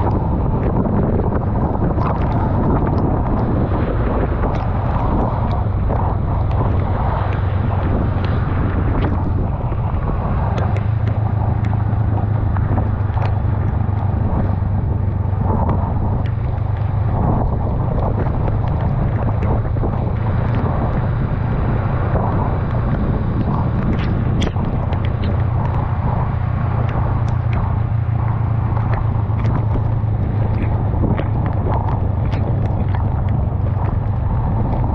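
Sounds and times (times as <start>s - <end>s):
motorcycle engine drone: 0.0s - 34.9s
rain ticking on camera: 0.0s - 34.9s
wind rush: 0.0s - 34.9s
tyres hissing on wet road: 3.4s - 34.4s.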